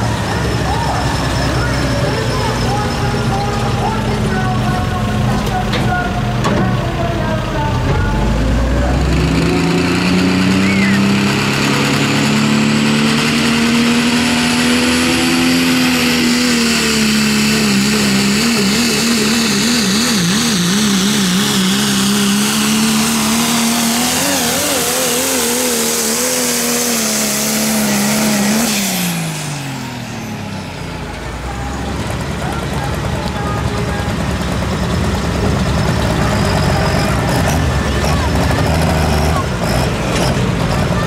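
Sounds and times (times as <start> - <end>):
engine running at full throttle: 0.0 - 41.0.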